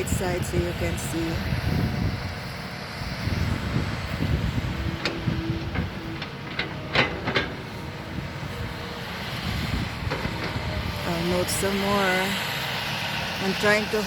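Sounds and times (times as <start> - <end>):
excavator engine rumbling: 0.0 - 14.0.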